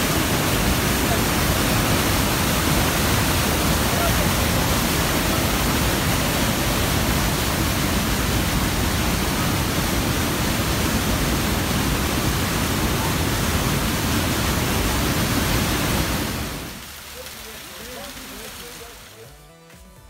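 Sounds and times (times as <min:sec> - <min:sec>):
mountain stream rushing: 0:00.0 - 0:19.5.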